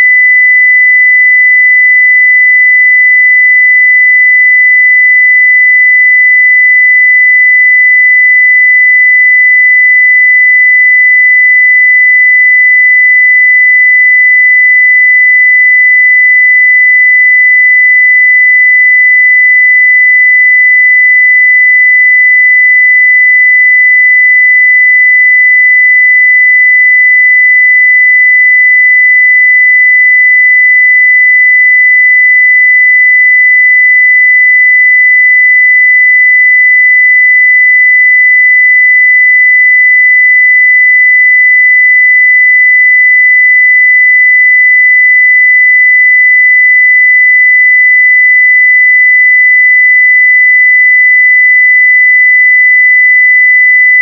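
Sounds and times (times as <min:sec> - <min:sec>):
sine-wave test tone: 0:00.0 - 0:54.0.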